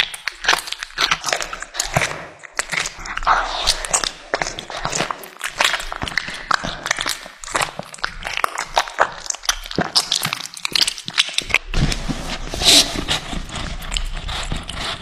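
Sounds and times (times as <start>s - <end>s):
cat chewing and licking: 0.0s - 15.0s.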